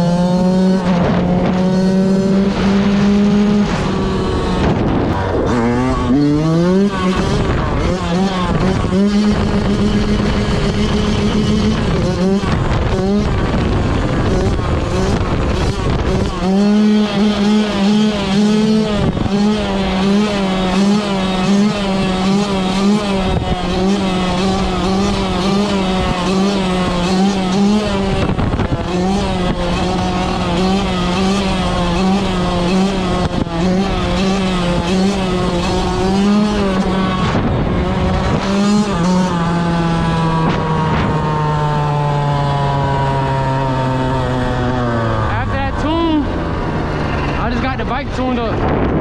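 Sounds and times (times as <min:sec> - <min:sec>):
two-stroke dirt bike revving: 0:00.0 - 0:49.0.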